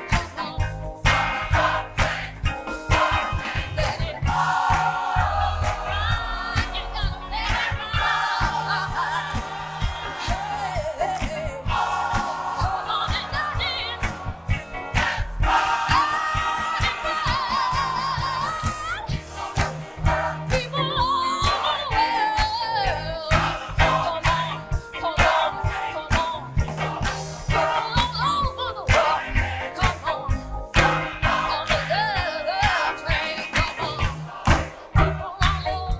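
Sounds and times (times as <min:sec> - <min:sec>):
bass guitar: 0:00.0 - 0:35.9
gospel choir singing: 0:00.0 - 0:35.9
live band playing: 0:00.0 - 0:35.9
steady drum beat: 0:00.0 - 0:35.9.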